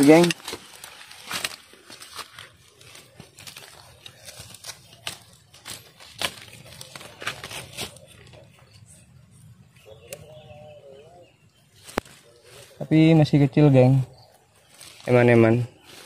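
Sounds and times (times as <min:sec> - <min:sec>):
dry leaves crackling and rustling: 0:00.0 - 0:09.2, 0:11.7 - 0:16.0.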